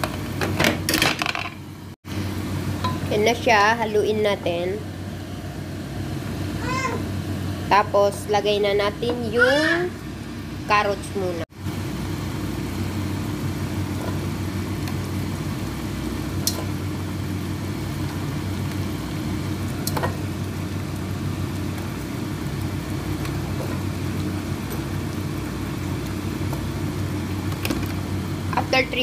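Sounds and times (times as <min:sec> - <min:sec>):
low electric hum: 0:00.0 - 0:29.0
stew simmering in a pan: 0:02.1 - 0:29.0.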